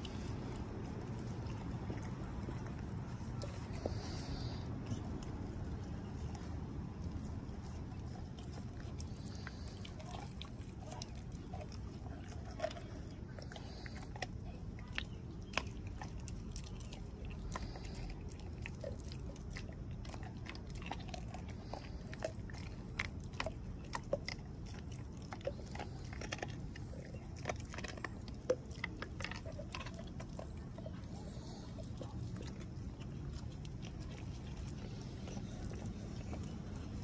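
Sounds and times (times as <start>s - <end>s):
dog chewing meat: 0.0s - 37.0s.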